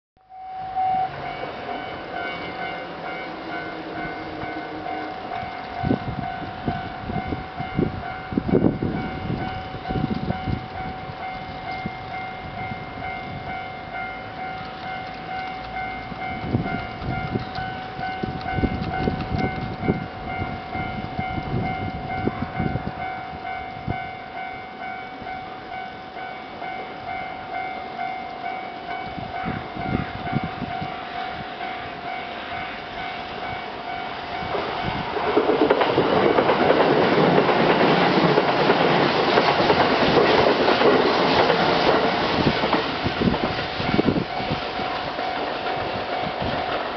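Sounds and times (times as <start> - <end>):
rushing rail noise: 0.3 - 46.9
train wheels clicking over rail joints: 1.2 - 22.3, 26.6 - 46.9.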